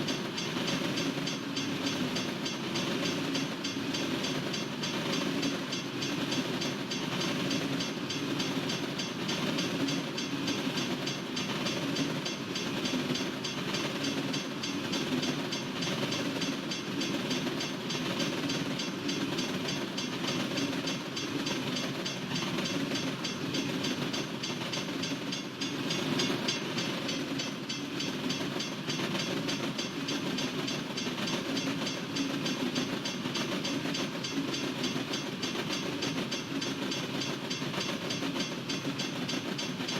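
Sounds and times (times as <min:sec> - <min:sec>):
train wheels rumbling on rail: 0:00.0 - 0:39.9
wheels clickety-clack: 0:00.0 - 0:39.9.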